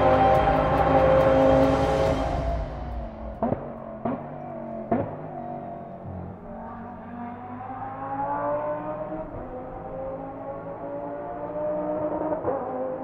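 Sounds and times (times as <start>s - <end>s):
race car engine running: 0.0s - 12.9s.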